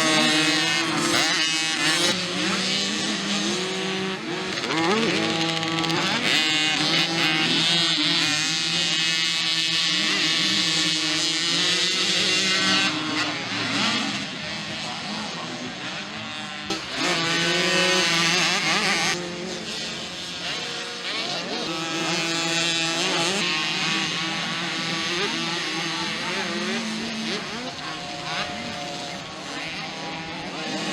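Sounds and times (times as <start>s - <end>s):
mini motocross bikes revving: 0.0s - 30.9s.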